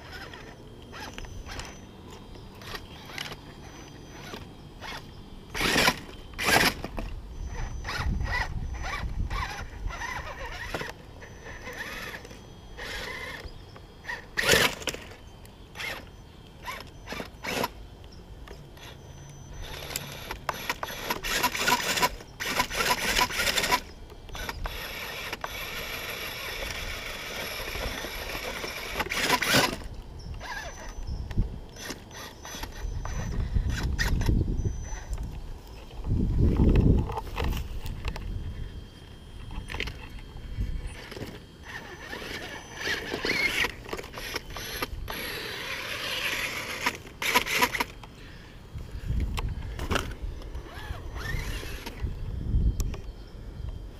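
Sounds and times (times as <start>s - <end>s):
rc car motor whine: 0.0s - 53.9s.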